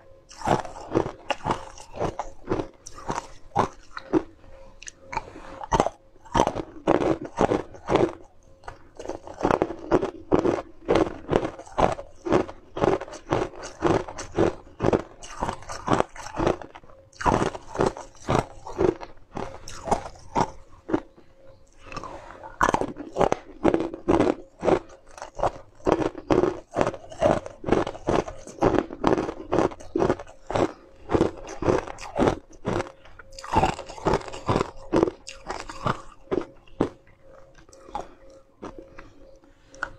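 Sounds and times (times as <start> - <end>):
ice cubes crunching in mouth: 0.0 - 39.9.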